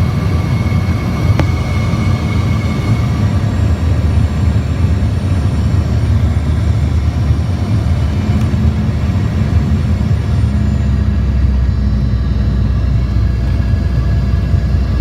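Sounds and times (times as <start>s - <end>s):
airplane engines rumbling in cabin: 0.0s - 15.0s.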